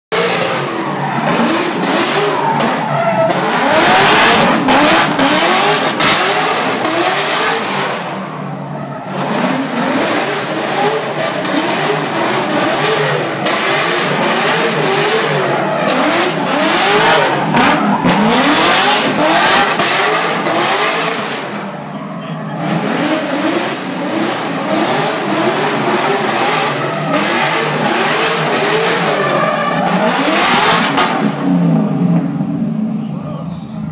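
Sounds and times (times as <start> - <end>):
tyres spinning and squealing: 0.1 - 23.5, 25.1 - 31.3
car engine revving: 0.1 - 33.9.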